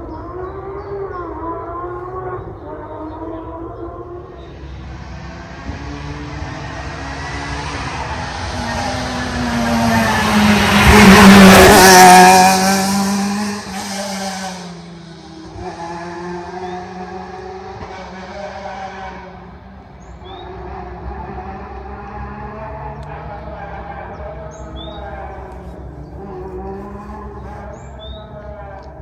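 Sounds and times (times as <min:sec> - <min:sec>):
rally car engine passing by: 0:00.0 - 0:29.0.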